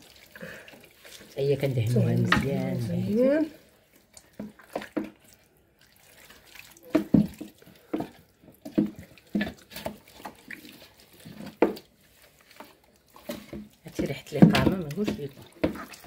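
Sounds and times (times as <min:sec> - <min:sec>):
hands squelching marinade into chicken: 0:00.0 - 0:16.0.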